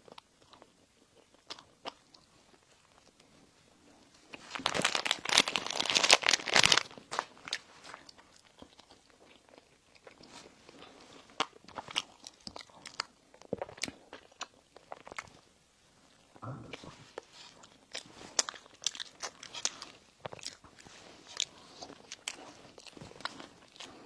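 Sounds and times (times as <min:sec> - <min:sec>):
chewing crunches: 0:00.0 - 0:03.3, 0:04.3 - 0:15.4, 0:16.2 - 0:24.0.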